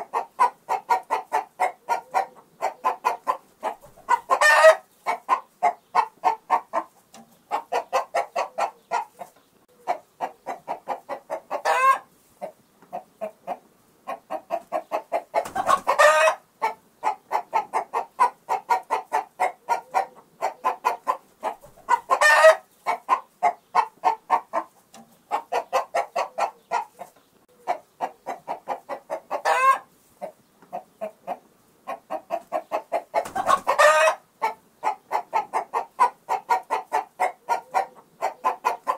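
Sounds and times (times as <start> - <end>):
chicken squawk: 0.0 - 6.9, 7.5 - 24.7, 25.3 - 38.9
chickens clucking: 0.0 - 38.9.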